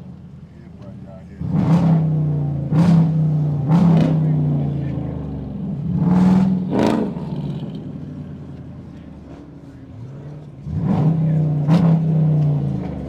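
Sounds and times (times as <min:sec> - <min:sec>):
car engine revving: 0:00.1 - 0:13.0.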